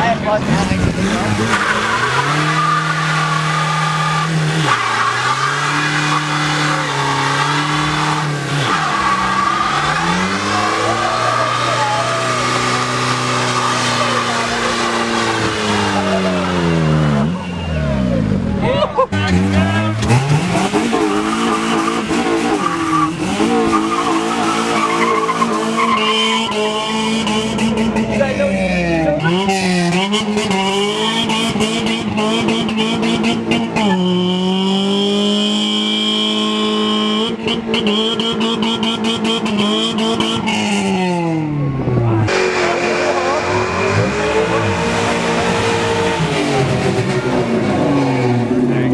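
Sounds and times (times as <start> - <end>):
car engine revving: 0.0 - 48.9
tires squealing: 0.0 - 48.9.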